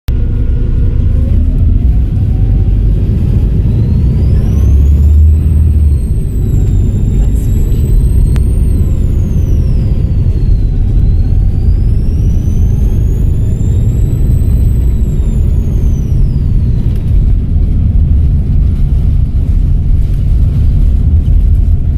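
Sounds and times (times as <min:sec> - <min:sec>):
diesel bus engine rumble: 0:00.1 - 0:21.9
turbocharger whistling: 0:00.1 - 0:21.9.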